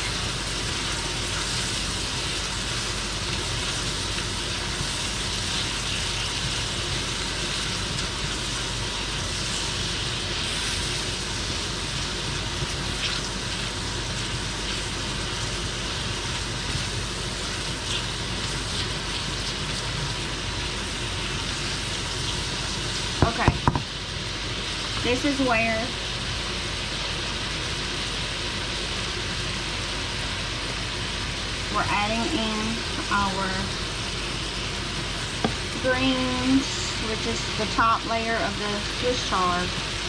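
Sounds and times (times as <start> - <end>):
vegetables sizzling in a skillet: 0.0 - 40.0
vent fan humming: 0.0 - 40.0.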